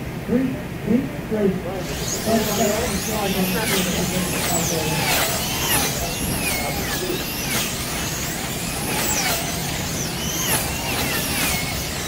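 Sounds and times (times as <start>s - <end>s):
slot car motors whining: 1.7s - 12.0s.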